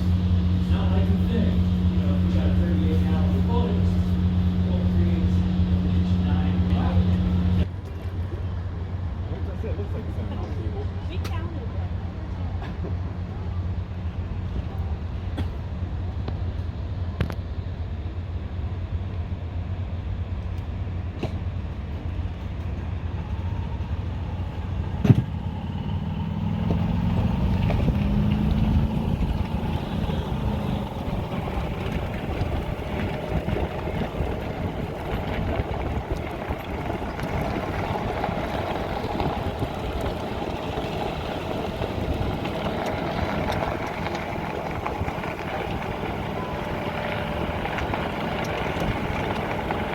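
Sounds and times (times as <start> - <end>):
low mechanical rumble: 0.0 - 49.9.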